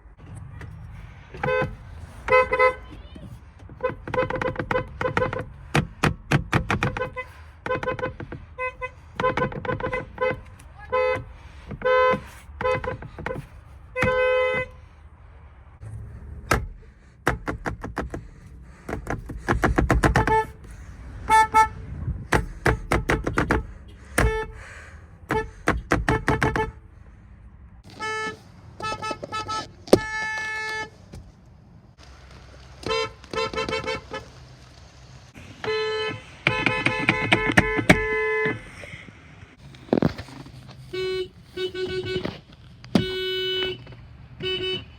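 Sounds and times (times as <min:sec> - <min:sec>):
car horns sounding: 0:01.3 - 0:15.0, 0:16.5 - 0:27.0, 0:27.8 - 0:31.0, 0:32.8 - 0:34.4, 0:35.4 - 0:38.9, 0:40.8 - 0:44.9.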